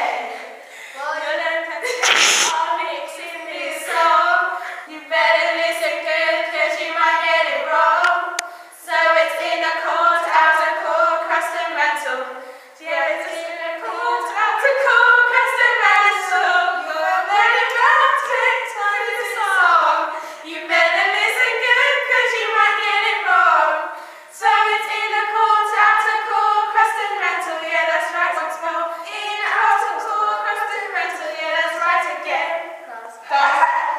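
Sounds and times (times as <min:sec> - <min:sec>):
girls singing unaccompanied: 0:00.0 - 0:02.0, 0:02.6 - 0:33.9.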